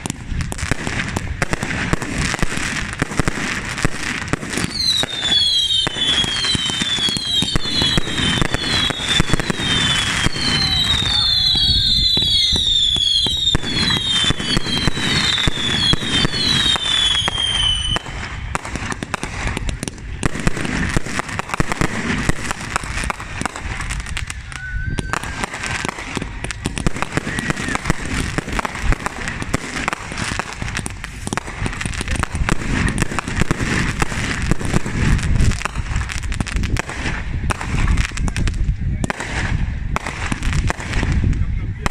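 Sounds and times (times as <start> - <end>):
firework whistles: 0.0 - 38.4
crackling firework bangs: 0.0 - 41.9.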